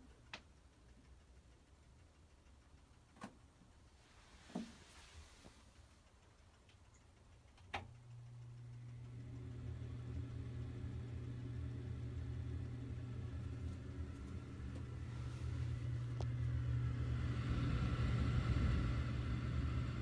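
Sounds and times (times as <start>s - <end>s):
exhaust fan motor hum: 0.0s - 20.0s.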